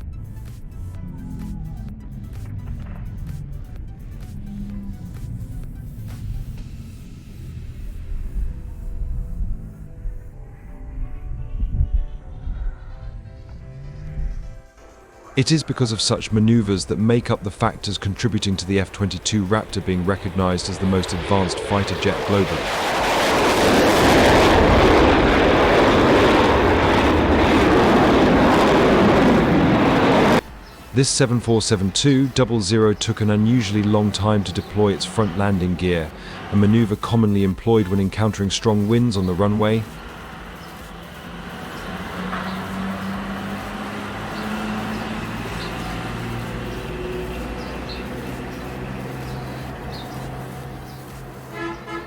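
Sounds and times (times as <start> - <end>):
fighter jet engines: 0.0 - 52.0.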